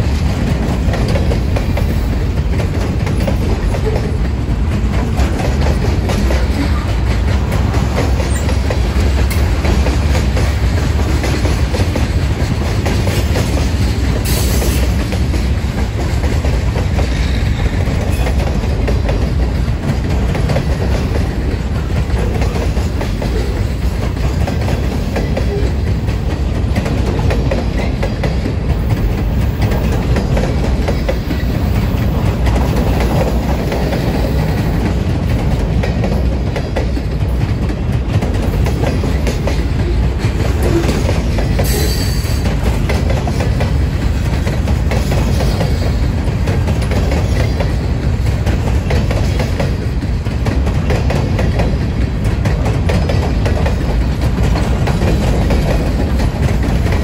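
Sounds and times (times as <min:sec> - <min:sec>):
steel wheels rumbling on rail: 0:00.0 - 0:57.0
wheels clicking over rail joints: 0:00.0 - 0:57.0.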